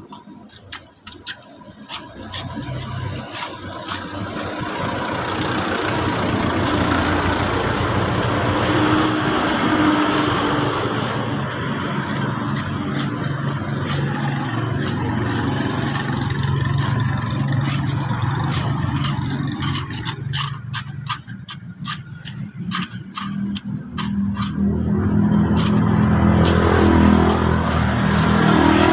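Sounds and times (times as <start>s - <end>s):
motor engine running: 1.7s - 28.9s.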